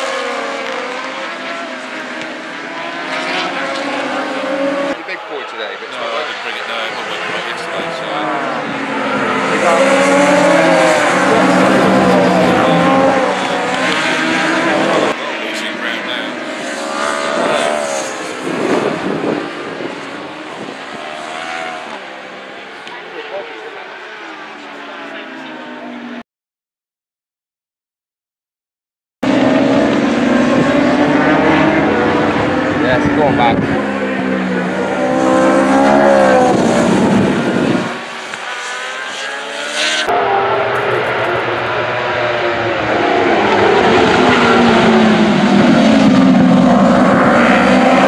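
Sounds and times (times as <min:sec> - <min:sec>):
racing motorbikes passing: 0:00.0 - 0:26.2, 0:29.2 - 0:48.0.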